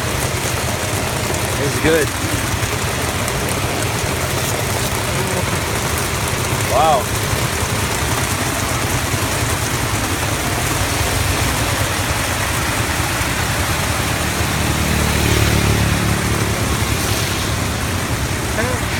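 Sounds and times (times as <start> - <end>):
low engine rumble: 0.0 - 18.9
rain and wet road hiss: 0.0 - 18.9.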